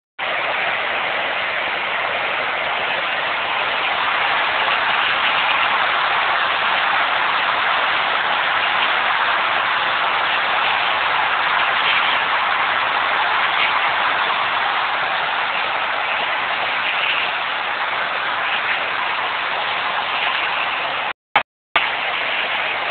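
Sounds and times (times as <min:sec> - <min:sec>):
steady grinding noise: 0:00.3 - 0:21.1.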